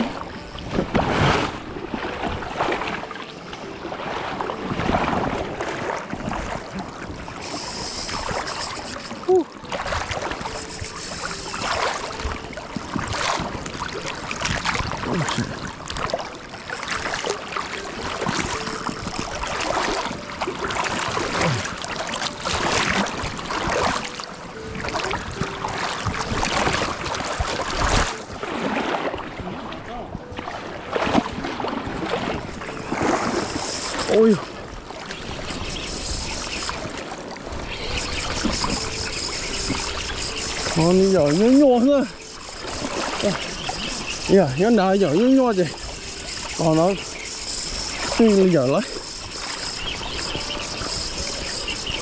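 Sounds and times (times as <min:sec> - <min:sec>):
water: 0:00.0 - 0:52.0
wind: 0:00.0 - 0:52.0.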